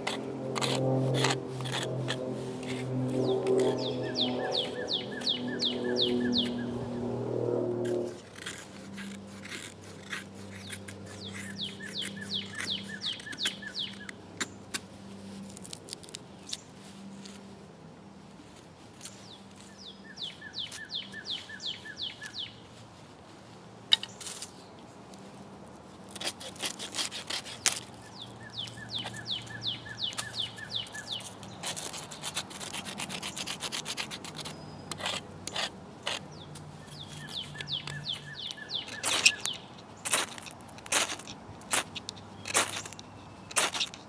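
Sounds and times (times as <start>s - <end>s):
blade scraping wood and ferro rod: 0.0s - 17.4s, 26.1s - 44.0s.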